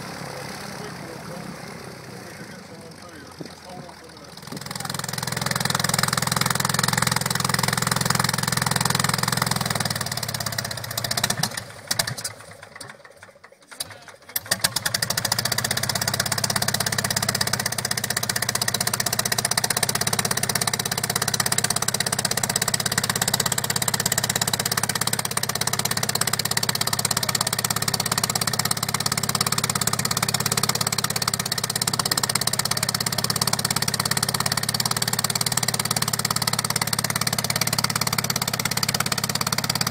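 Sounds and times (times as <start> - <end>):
propeller aircraft engine: 0.0 - 39.9.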